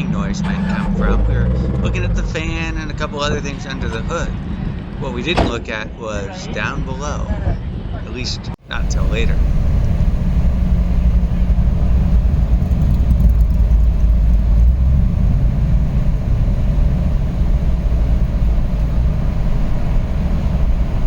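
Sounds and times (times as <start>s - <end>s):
car engine and road rumble: 0.0s - 5.8s, 8.6s - 21.0s.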